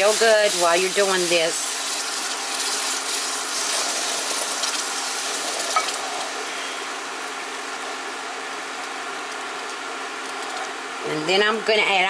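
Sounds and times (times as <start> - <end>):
liquid sizzling in skillet: 0.0 - 10.9.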